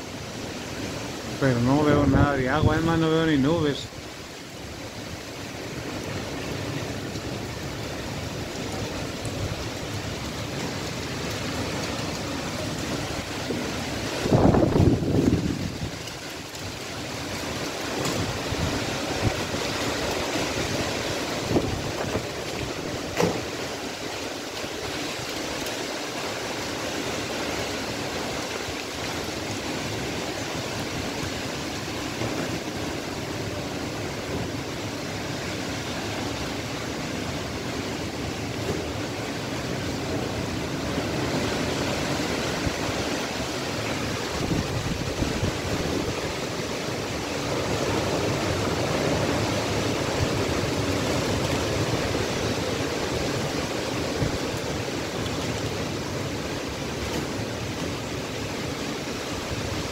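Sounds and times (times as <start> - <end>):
strong wind through trees: 0.0 - 59.9.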